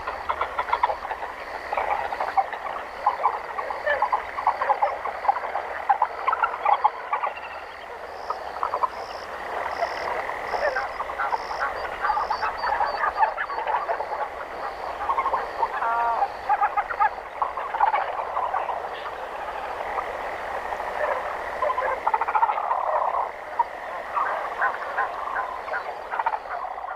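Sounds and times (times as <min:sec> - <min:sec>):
frogs croaking: 0:00.0 - 0:26.9.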